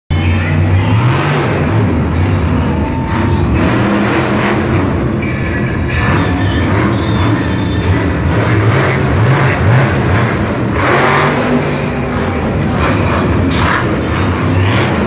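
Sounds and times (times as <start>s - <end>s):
monster truck engines revving: 0.1s - 15.0s.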